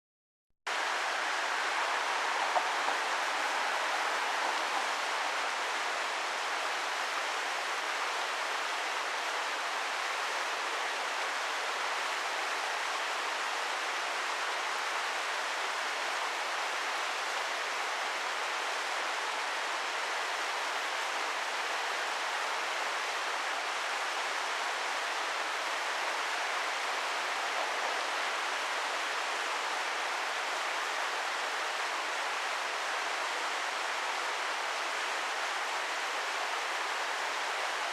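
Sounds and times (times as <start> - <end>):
small waterfall rushing: 0.7 - 37.9.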